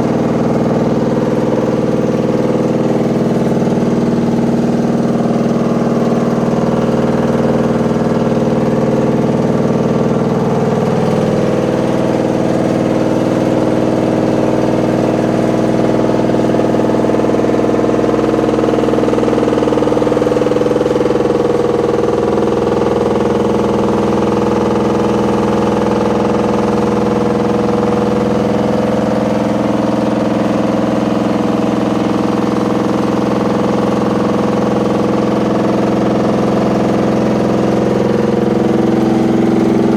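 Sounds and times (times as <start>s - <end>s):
washing machine running noisily: 0.0s - 39.9s.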